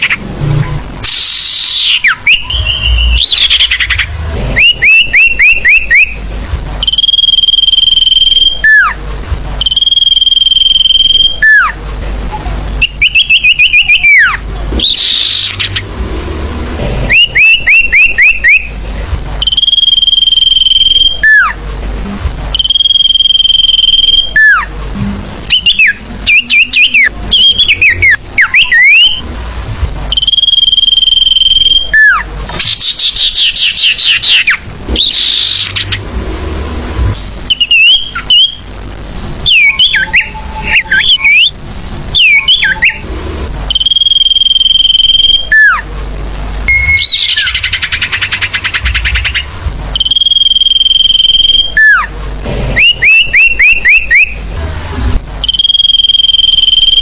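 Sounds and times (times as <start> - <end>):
recorded bird song chirps and whistles: 0.0 - 0.2, 1.0 - 9.0, 9.6 - 11.8, 12.8 - 15.9, 17.1 - 21.6, 22.5 - 24.7, 25.4 - 29.3, 30.1 - 36.0, 37.1 - 38.8, 39.4 - 43.1, 43.7 - 45.9, 46.6 - 52.1, 52.7 - 54.5, 55.4 - 57.0.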